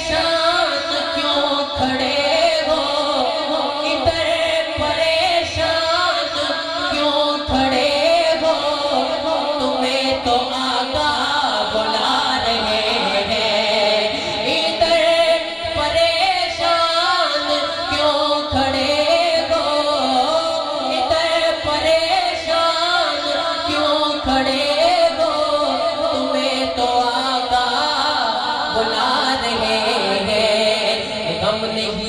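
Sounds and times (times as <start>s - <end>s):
man singing into a microphone: 0.0s - 32.0s.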